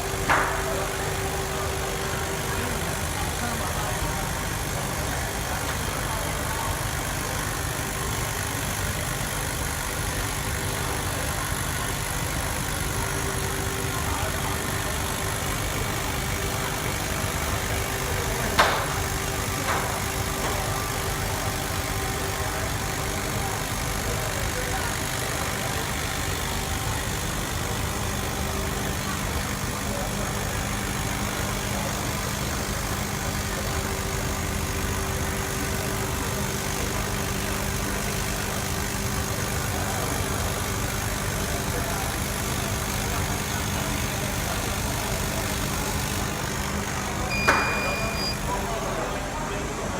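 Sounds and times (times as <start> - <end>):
laser cutter mechanical hum: 0.0 - 49.9.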